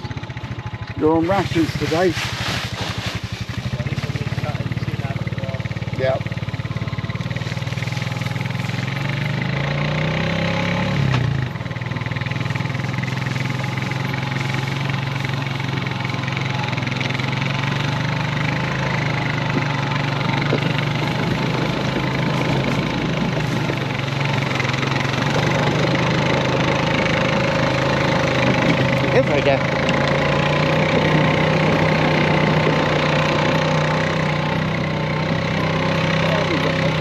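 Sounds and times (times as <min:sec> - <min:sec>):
small vehicle engine running: 0:00.0 - 0:37.0.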